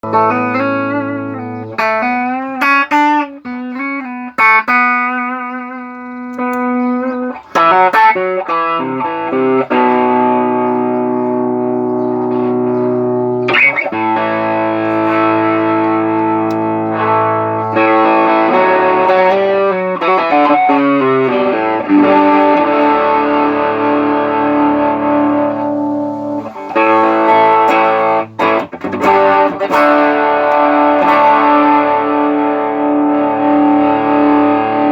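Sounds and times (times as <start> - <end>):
electric guitar notes with vibrato: 0.0 - 34.9
overdriven guitar chords ringing: 0.0 - 34.9.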